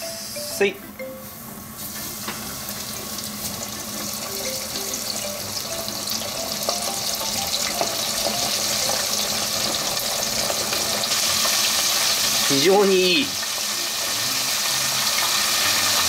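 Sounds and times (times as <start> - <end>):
fish deep-frying in hot oil: 1.7 - 16.0.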